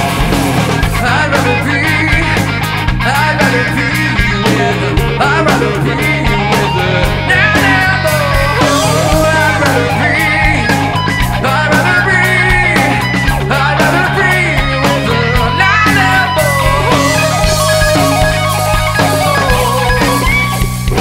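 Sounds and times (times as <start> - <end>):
rock band playing: 0.0 - 21.0
man singing: 0.9 - 21.0.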